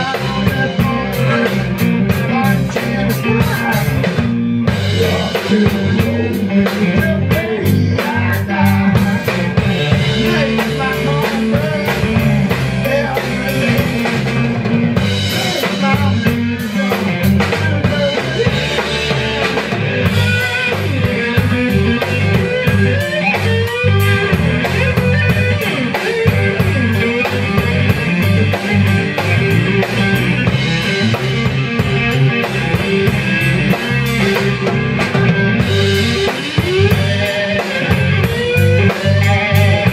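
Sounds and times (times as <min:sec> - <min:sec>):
drum kit beat: 0:00.0 - 0:39.9
slide electric guitar: 0:00.0 - 0:39.9.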